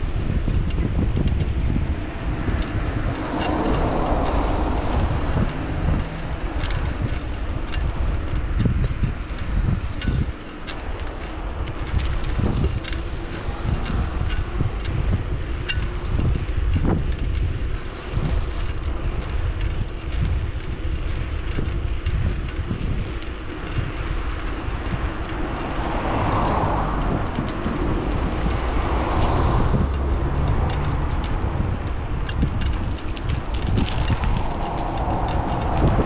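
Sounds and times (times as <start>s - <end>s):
bicycle clicks and rattles: 0.0s - 36.0s
wind buffeting microphone: 0.0s - 36.0s.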